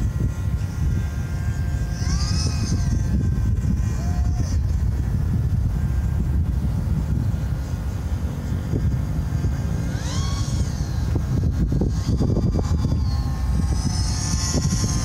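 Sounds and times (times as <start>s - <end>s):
model aircraft engine whining: 0.0s - 15.0s
wind rumble on microphone: 0.0s - 15.0s.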